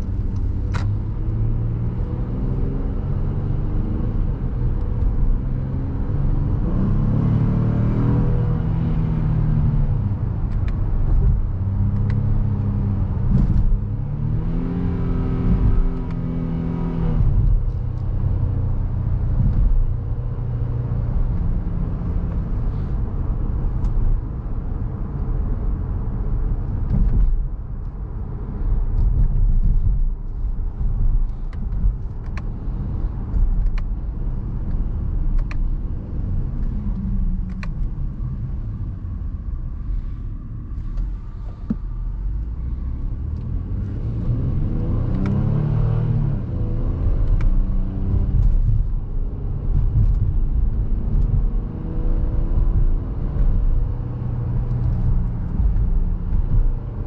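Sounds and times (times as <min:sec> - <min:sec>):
car engine: 0:00.0 - 0:57.0
road noise: 0:00.0 - 0:57.0.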